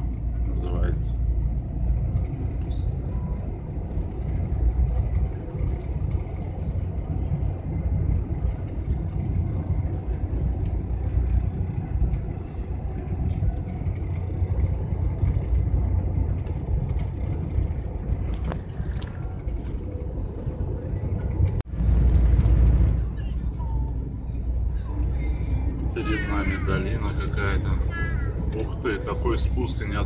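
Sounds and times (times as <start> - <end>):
van engine and tyre rumble: 0.0 - 30.0.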